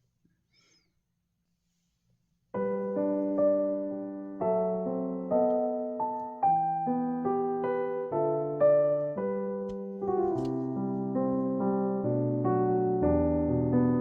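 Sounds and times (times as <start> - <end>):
piano chords: 2.6 - 14.0.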